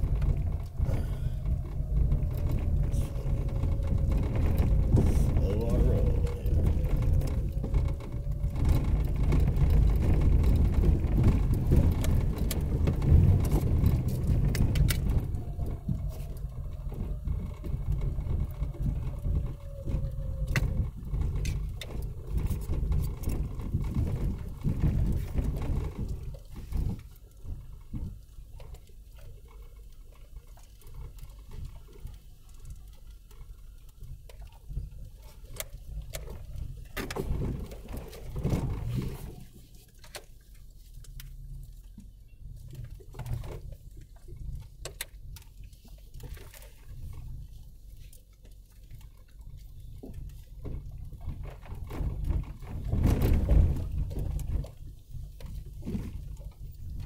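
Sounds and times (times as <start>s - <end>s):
engine and drivetrain rumble: 0.0s - 57.0s
stones clicking under tyres: 0.0s - 57.0s.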